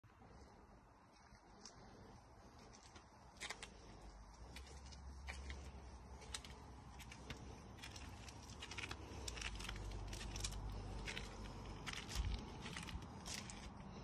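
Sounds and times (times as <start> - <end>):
low steady rumble: 0.0 - 14.0
faint footsteps on pavement: 0.3 - 14.0.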